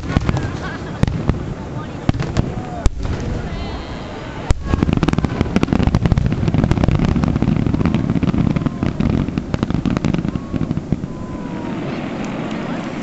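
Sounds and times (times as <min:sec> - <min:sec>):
fireworks crackling pops: 0:00.0 - 0:13.0
firework bang: 0:02.1 - 0:13.0.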